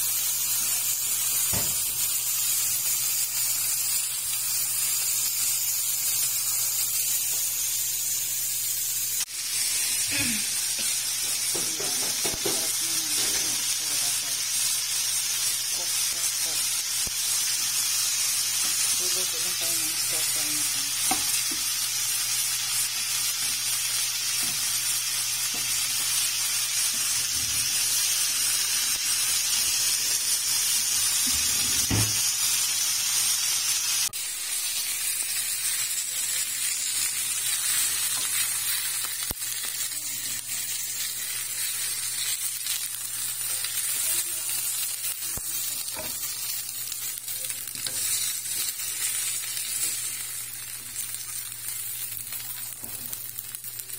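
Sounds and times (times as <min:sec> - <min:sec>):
chicken sizzling in grill pan: 0:00.0 - 0:53.9.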